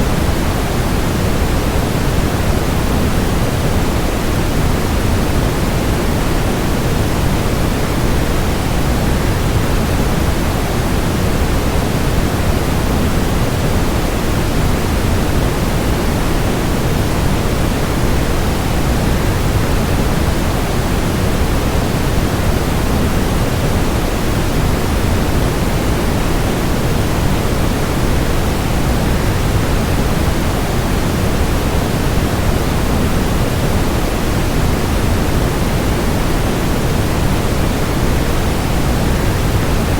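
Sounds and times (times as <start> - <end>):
white noise: 0.0 - 39.9.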